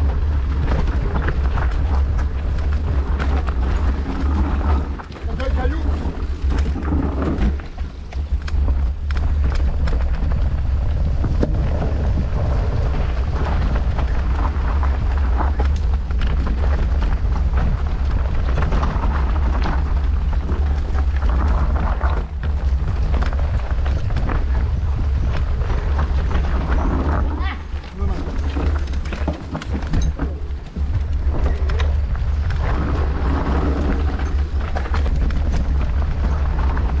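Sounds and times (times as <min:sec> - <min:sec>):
bike rattling: 0:00.0 - 0:37.0
bike tyres on trail: 0:00.0 - 0:37.0
wind buffeting microphone: 0:00.0 - 0:37.0.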